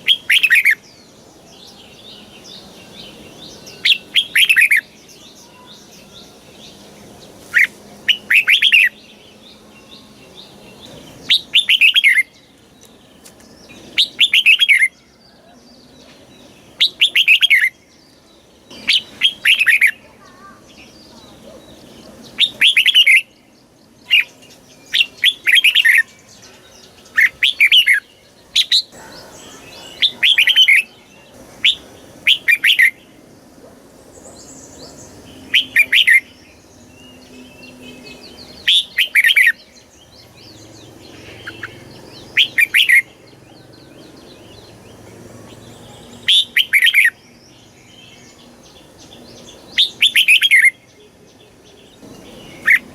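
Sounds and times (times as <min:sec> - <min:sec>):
bird singing warbled phrases: 0:00.0 - 0:52.9.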